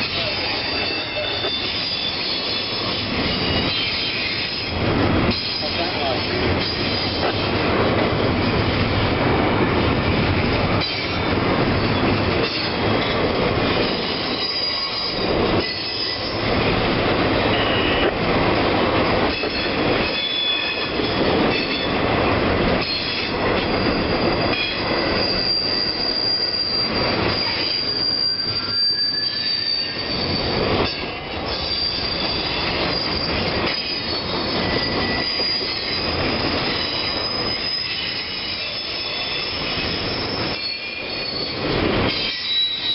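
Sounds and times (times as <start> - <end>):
high wheel squeal: 0.0 - 7.4, 11.8 - 18.1, 19.3 - 21.9, 22.8 - 42.9
freight train wheels rumbling on rail: 0.0 - 42.9.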